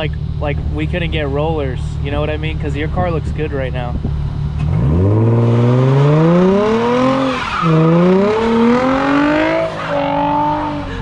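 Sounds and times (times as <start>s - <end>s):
car engine accelerating hard: 0.4s - 11.0s.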